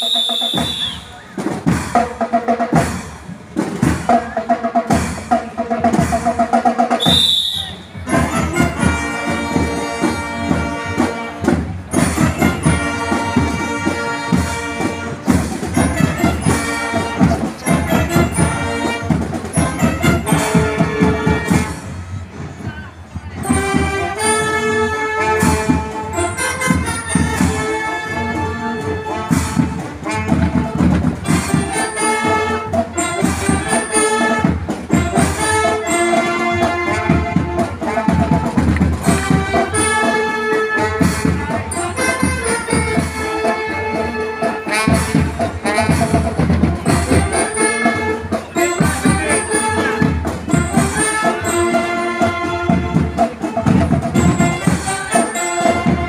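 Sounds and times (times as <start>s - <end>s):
drums beating steadily: 0.0s - 56.0s
marching band playing: 0.0s - 56.0s.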